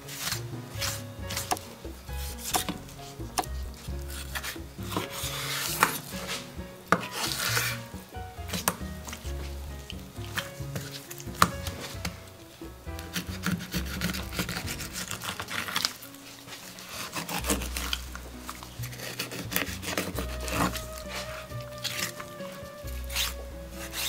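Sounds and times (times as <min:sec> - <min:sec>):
background music: 0:00.0 - 0:24.0.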